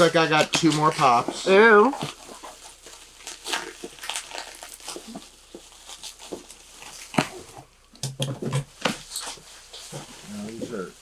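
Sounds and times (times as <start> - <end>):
packing wrap crinkling: 0.0 - 7.6, 8.5 - 11.0.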